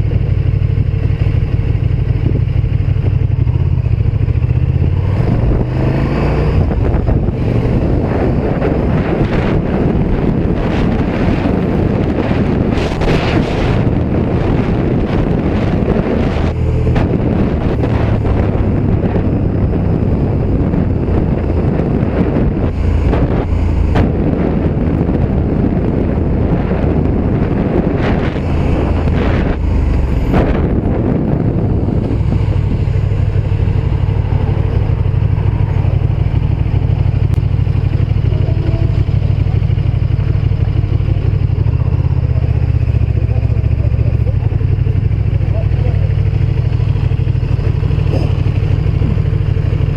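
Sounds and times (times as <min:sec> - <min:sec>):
motorcycle engine running: 0:00.0 - 0:49.9
wind rushing on microphone: 0:00.0 - 0:49.9.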